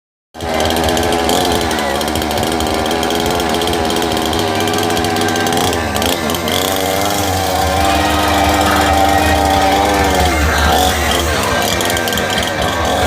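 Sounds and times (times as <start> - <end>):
small engine running: 0.4 - 13.0.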